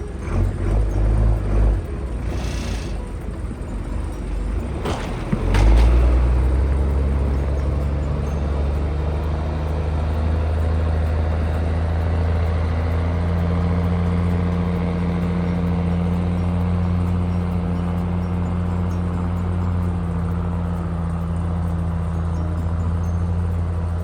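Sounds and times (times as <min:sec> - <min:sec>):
engine humming steadily: 0:00.0 - 0:24.0.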